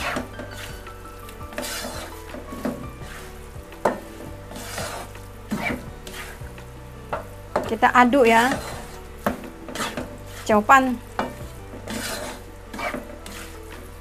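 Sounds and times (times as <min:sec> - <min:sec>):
meat sizzling in a pan: 0:00.0 - 0:14.0
spatula scraping and stirring: 0:00.0 - 0:14.0.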